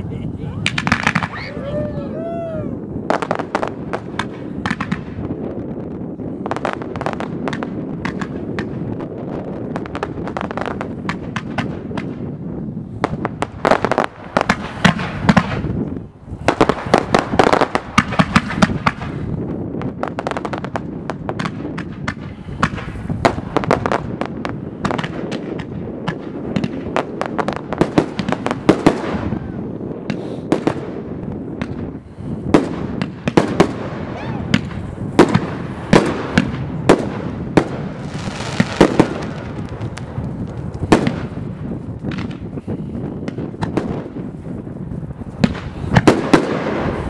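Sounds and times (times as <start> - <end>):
fireworks launching banging and crackling: 0.0 - 47.0.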